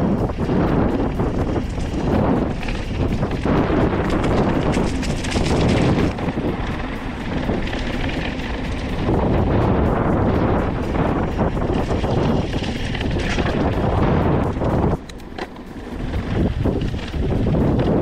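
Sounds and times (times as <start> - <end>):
mountain bike rattling on dirt: 0.0 - 18.0
wind buffeting microphone: 0.0 - 18.0.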